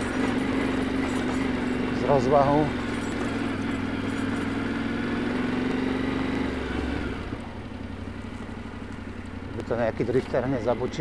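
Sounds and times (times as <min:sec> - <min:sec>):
motorcycle engine running: 0:00.0 - 0:11.0
tyre and road noise: 0:00.0 - 0:11.0.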